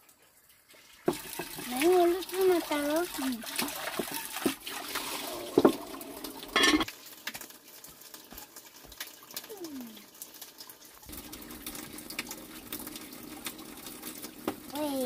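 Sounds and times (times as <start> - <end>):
running water trickling: 0.0 - 15.0.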